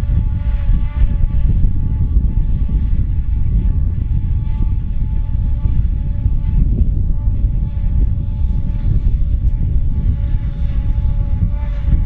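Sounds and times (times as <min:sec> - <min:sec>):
constant machine whine: 0:00.0 - 0:12.0.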